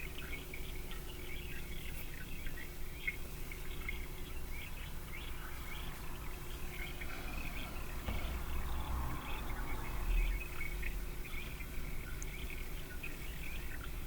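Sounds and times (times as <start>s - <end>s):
small songbirds chirping: 0.0s - 14.0s
steady low hum: 0.0s - 14.0s.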